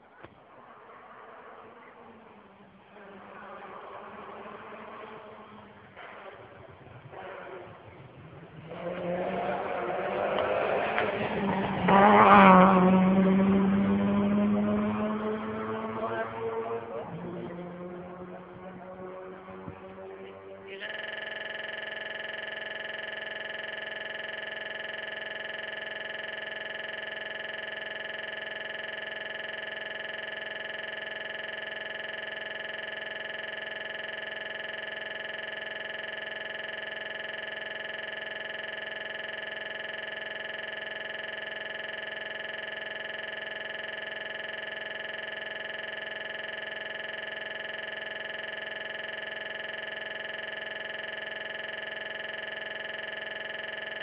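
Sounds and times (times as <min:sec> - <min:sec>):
steady electronic drone: 0:00.0 - 0:54.0.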